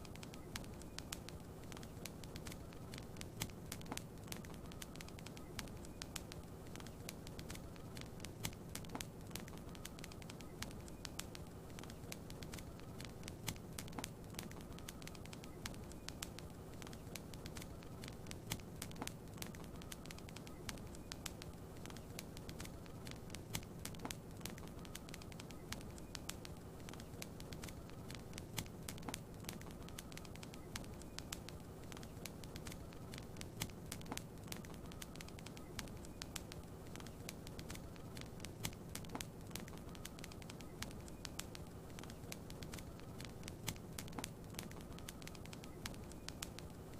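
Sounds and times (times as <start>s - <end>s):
low hiss: 0.0s - 46.9s
wood fire crackling: 0.0s - 46.9s.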